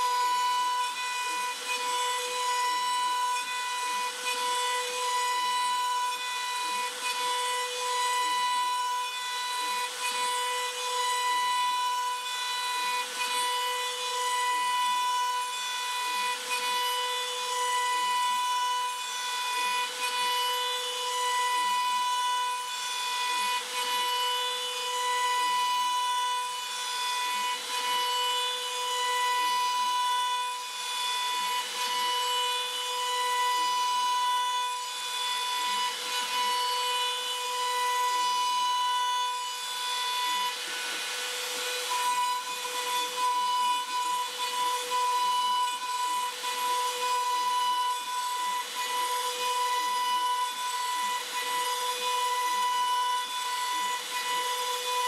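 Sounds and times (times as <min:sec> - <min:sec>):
wood router cutting wood: 0:00.0 - 0:55.0.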